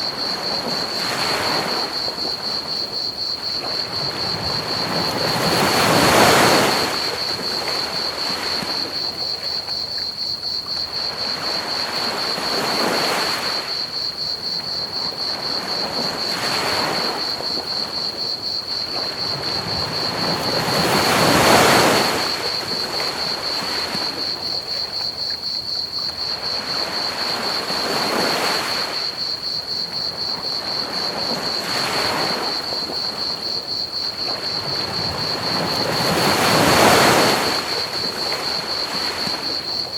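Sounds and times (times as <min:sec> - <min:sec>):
crickets chirping: 0:00.0 - 0:39.9
ocean waves breaking on a beach: 0:00.0 - 0:39.9.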